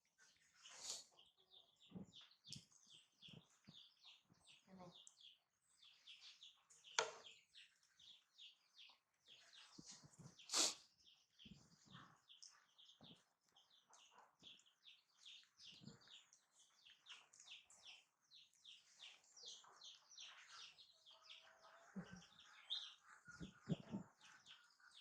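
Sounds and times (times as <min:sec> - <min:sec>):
small birds chirping faintly: 0:00.0 - 0:25.0.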